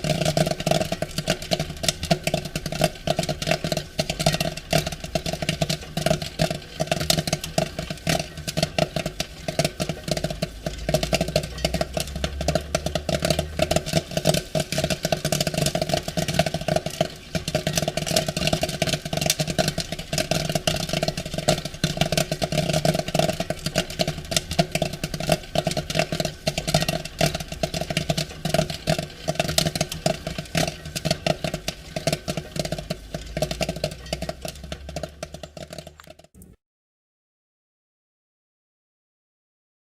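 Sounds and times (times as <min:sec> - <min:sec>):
popcorn popping: 0:00.0 - 0:36.6.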